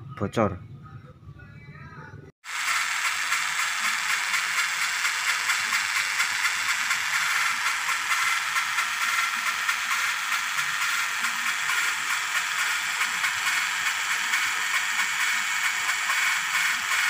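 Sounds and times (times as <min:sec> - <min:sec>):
fine fast rattle: 0:02.5 - 0:17.0.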